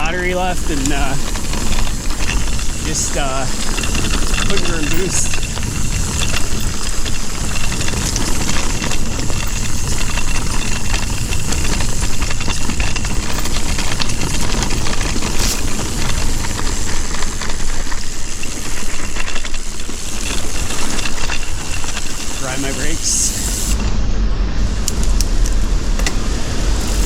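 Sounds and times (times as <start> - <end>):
crackle from trail surface: 0.0 - 23.8
tyre rumble on trail: 0.0 - 23.8
wind noise on microphone: 0.0 - 27.0.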